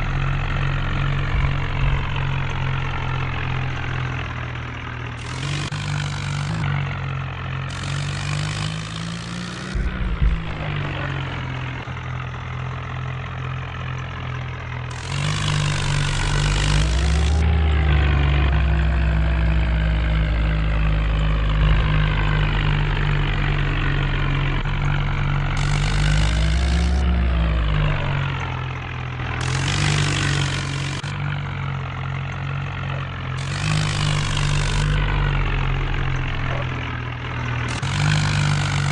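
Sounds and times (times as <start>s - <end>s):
diesel tractor engine revving: 0.0s - 38.9s.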